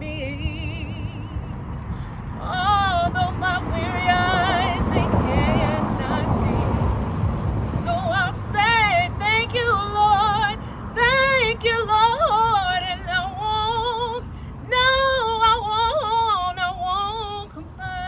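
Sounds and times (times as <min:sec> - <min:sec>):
woman singing gospel: 0:00.0 - 0:01.6, 0:02.4 - 0:07.2, 0:07.8 - 0:18.0.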